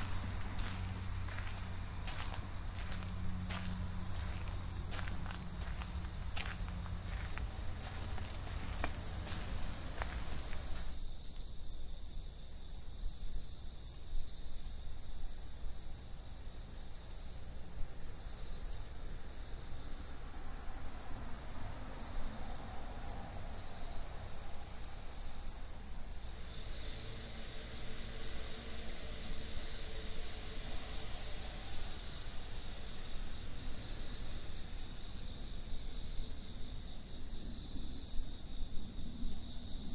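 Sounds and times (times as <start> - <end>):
crickets singing: 0.0 - 39.9.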